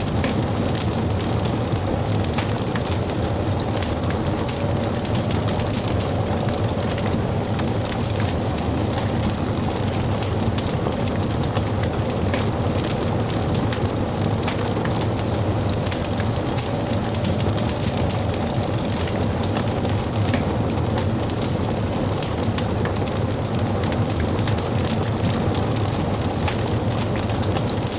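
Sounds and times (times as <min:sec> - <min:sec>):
fire rumbling: 0:00.0 - 0:27.9
wood crackling and popping: 0:00.0 - 0:27.9.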